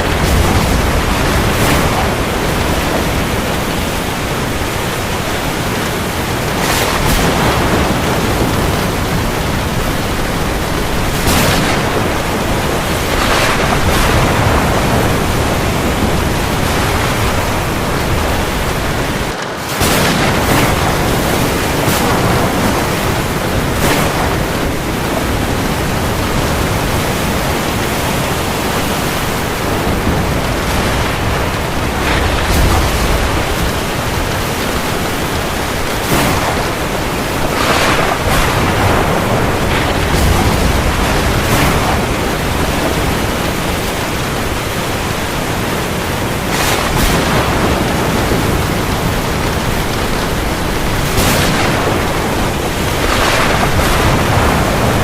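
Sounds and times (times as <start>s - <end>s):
heavy rain falling on sea: 0.0s - 55.0s.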